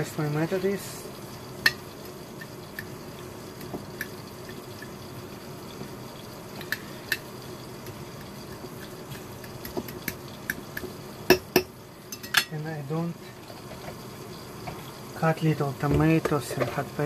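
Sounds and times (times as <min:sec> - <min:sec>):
peppers sizzling in a pan: 0:00.0 - 0:17.0.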